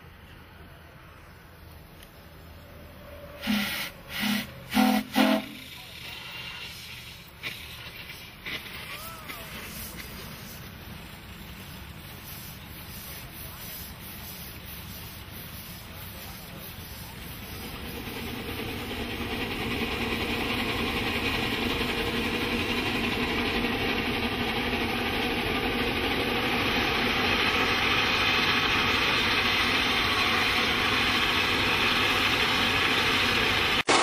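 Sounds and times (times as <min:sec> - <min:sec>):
steam engine running: 0:02.7 - 0:34.0.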